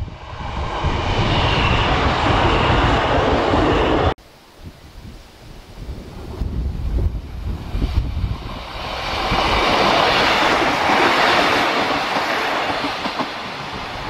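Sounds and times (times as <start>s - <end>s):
train passing wheel and rail noise: 0.0s - 4.2s, 6.0s - 14.0s.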